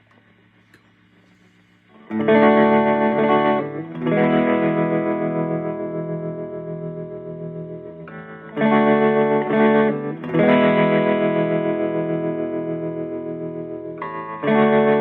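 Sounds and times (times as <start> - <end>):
faint amp hum: 0.0 - 15.0
distorted electric guitar chords: 1.9 - 15.0.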